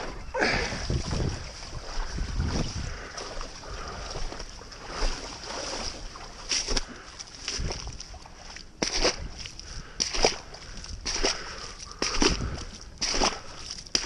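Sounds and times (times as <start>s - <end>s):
paddle strokes: 0.0s - 14.0s
water sloshing with ice: 0.0s - 14.0s.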